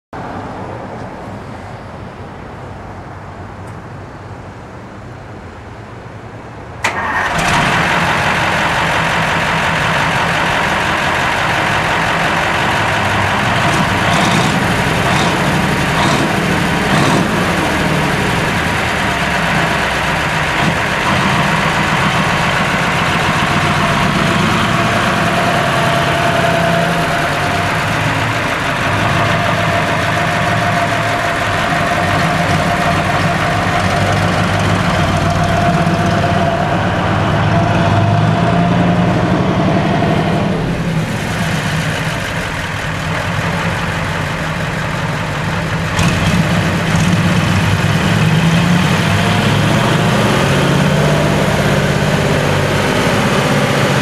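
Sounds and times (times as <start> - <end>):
truck engine starting and running: 6.6 - 54.0.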